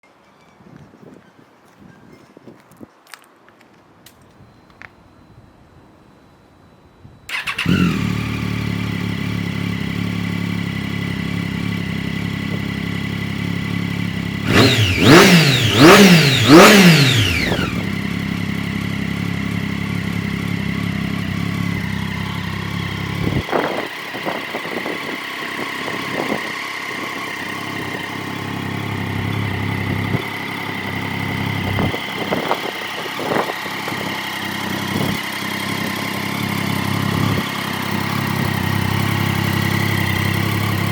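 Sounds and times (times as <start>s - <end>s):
engine revving: 7.3s - 40.9s
motorcycle engine idling: 7.3s - 40.9s
motorcycle engine starting: 7.3s - 40.9s.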